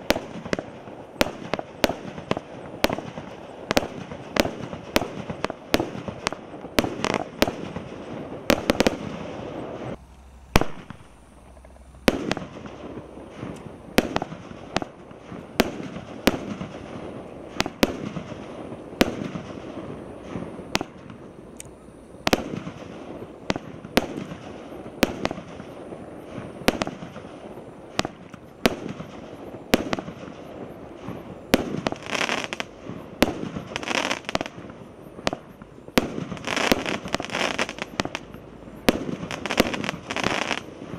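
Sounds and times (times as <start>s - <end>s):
firework bangs: 0.0s - 21.6s, 22.2s - 40.9s
crackling of bursting stars: 0.0s - 40.9s.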